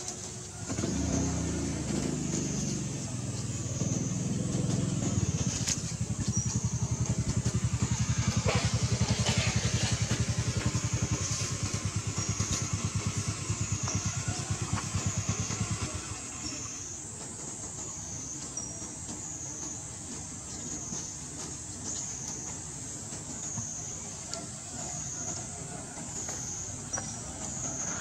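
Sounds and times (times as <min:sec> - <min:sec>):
small engine chugging: 0:00.0 - 0:28.0.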